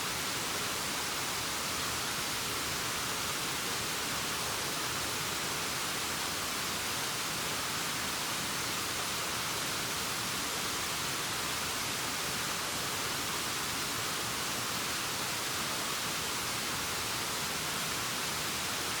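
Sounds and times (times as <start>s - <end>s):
waterfall hissing: 0.0s - 19.0s.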